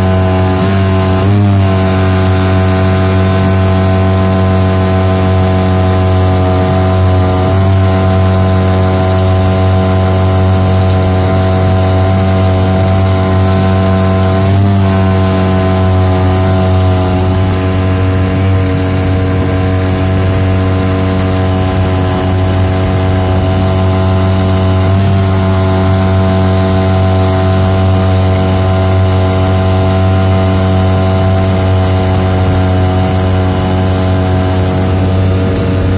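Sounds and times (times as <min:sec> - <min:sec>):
boat motor droning: 0:00.0 - 0:35.9.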